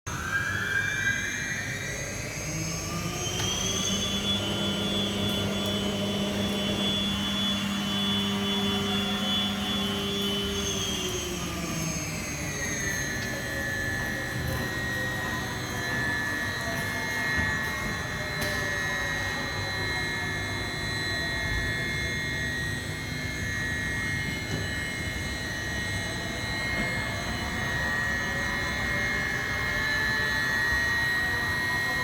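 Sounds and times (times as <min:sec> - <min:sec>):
machine spindle whine: 0:00.1 - 0:32.0.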